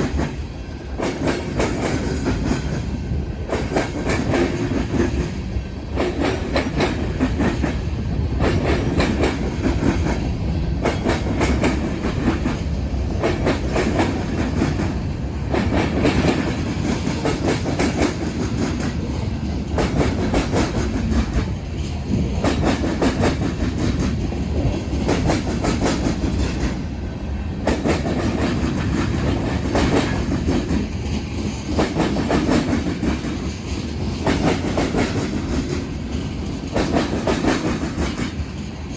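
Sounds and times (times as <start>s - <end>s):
train wheels clattering over crossing: 0.0s - 38.9s.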